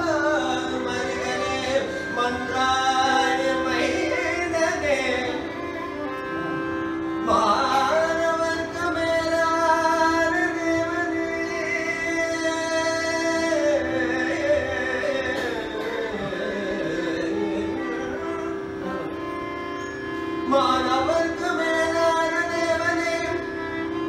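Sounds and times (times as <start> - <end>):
man singing: 0.0 - 5.9, 7.2 - 19.1, 20.4 - 24.0
violin: 0.0 - 24.0.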